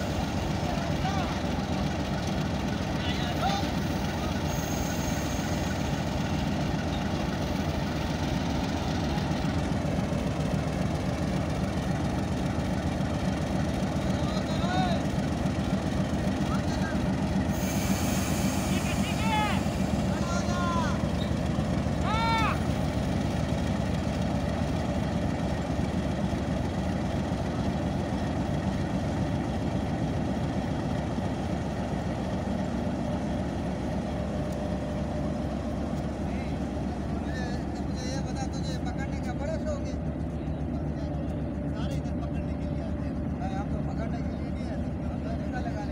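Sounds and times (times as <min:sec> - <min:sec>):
diesel locomotive engine idling: 0:00.0 - 0:45.9.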